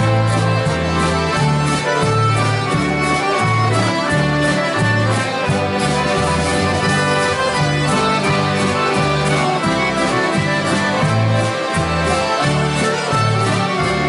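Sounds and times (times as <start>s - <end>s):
accordions playing dance tune: 0.0s - 14.0s
strummed guitars: 0.0s - 14.0s.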